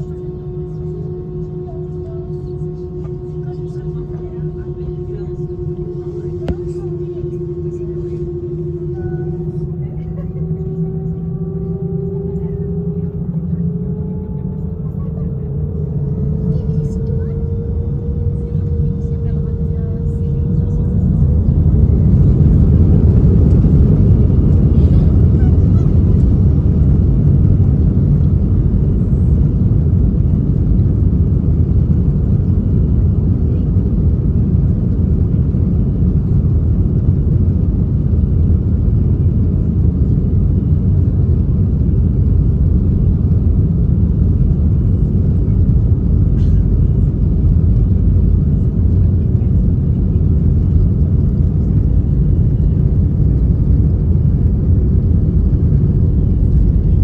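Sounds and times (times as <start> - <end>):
airflow past aircraft fuselage: 0.0 - 57.0
jet engines rumbling: 0.0 - 57.0.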